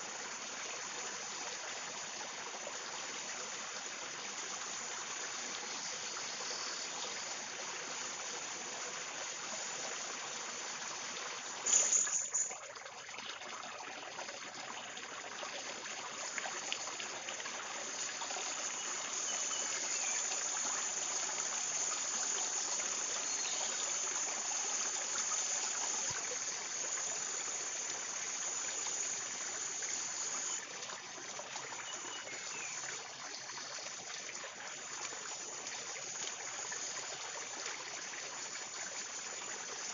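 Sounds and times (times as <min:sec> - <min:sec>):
forest stream rushing: 0:00.0 - 0:39.9.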